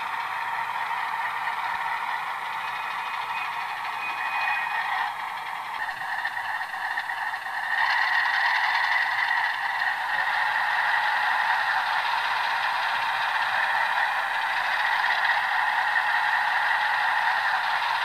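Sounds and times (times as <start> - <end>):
model locomotive diesel rumble: 0.0 - 18.0.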